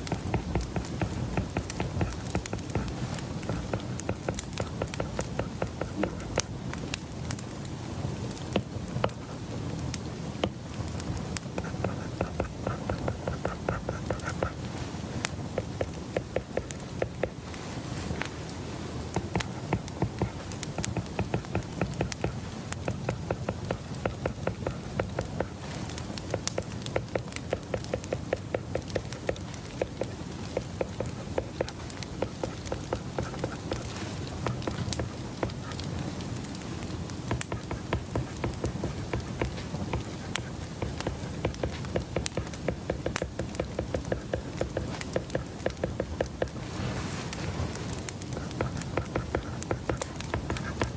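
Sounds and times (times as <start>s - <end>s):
light sharp taps and clicks: 0.0s - 9.3s, 10.0s - 50.9s
low background hum: 0.0s - 50.9s.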